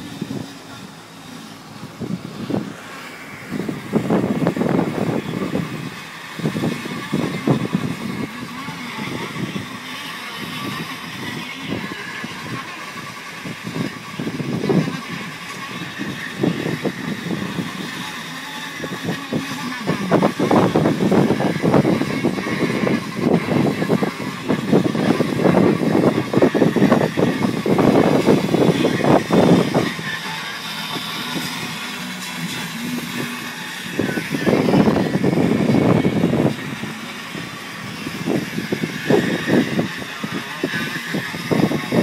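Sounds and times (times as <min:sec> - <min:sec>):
motorboat engine: 0:00.0 - 0:42.0
wind buffeting microphone: 0:00.0 - 0:42.0.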